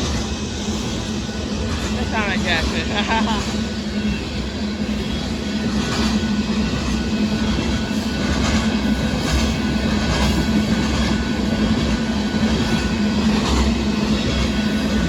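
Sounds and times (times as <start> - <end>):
freight train rumble: 0.0 - 15.0
train wheel clacks: 0.0 - 15.0.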